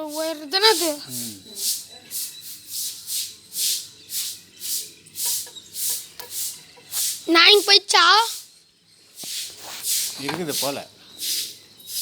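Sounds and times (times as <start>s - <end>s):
rhythmic scraping strokes: 0.0s - 8.5s, 9.2s - 12.0s.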